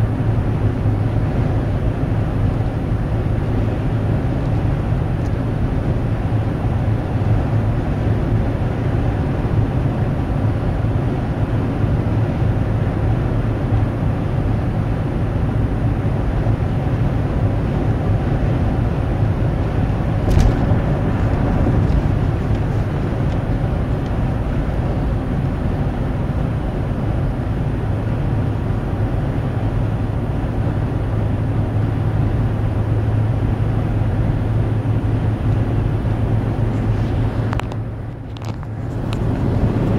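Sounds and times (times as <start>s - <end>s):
low vehicle rumble: 0.0s - 39.9s.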